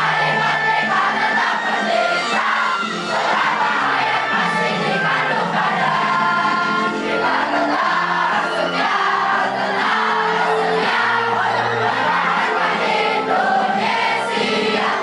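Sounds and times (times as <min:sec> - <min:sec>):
group singing: 0:00.0 - 0:15.0
musical accompaniment: 0:00.0 - 0:15.0.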